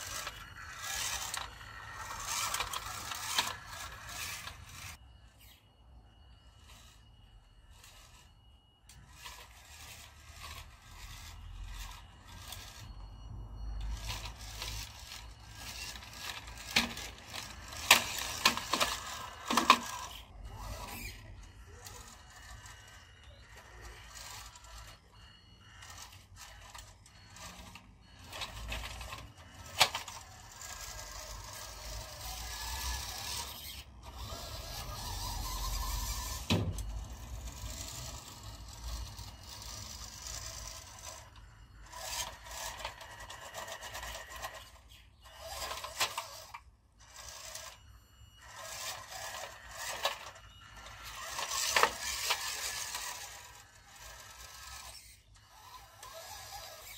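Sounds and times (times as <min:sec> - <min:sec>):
tyres scraping on bricks: 0:00.0 - 0:05.0, 0:14.0 - 0:46.5, 0:48.4 - 0:56.9
small electric motor and gears: 0:00.0 - 0:56.9.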